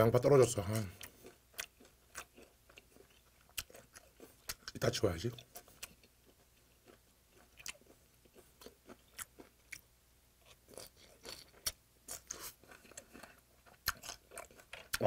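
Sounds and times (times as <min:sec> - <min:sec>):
crisp crunchy chewing: 0:00.7 - 0:09.8, 0:10.4 - 0:15.0.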